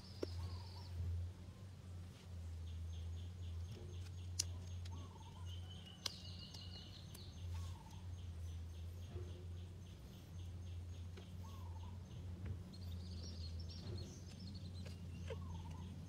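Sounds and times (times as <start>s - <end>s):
steady low hum: 0.0s - 16.0s
fast pulsing bird chirp: 2.6s - 16.0s.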